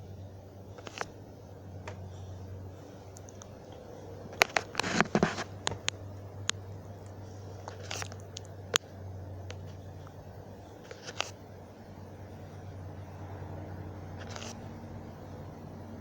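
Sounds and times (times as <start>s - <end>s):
crackly rustling: 0.0s - 16.0s
low hum: 0.0s - 16.0s.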